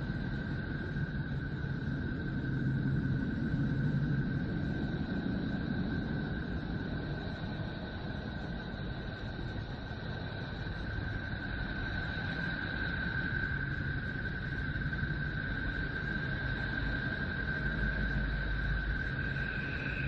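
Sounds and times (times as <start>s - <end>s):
low rumble and hiss: 0.0s - 20.0s.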